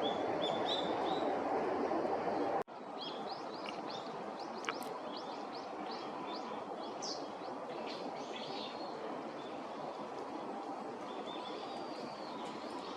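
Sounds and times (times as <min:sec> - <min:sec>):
steady background noise: 0:00.0 - 0:12.9.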